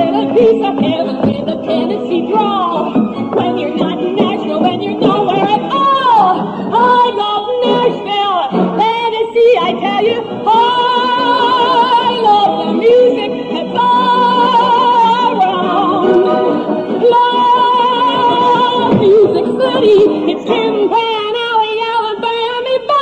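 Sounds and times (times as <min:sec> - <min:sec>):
musical accompaniment: 0:00.0 - 0:23.0
woman singing with vibrato: 0:00.0 - 0:23.0.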